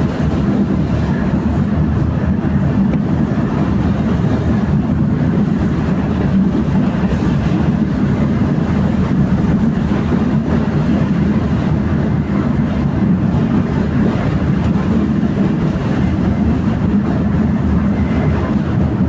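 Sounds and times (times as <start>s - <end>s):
tram wheels rumbling on rails: 0.0s - 19.0s.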